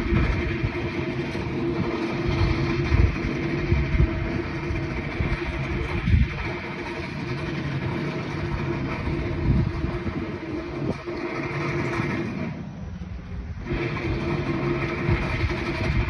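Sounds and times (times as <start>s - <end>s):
machinery engines rumbling: 0.0s - 16.0s.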